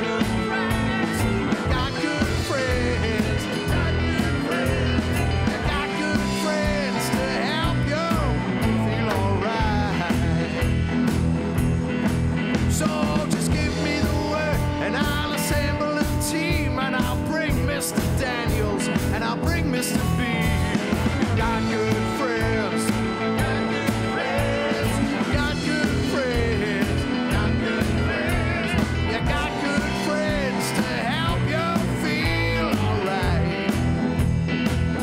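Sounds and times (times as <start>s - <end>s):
drum kit: 0.0s - 35.0s
electric bass: 0.0s - 35.0s
electric guitars: 0.0s - 35.0s.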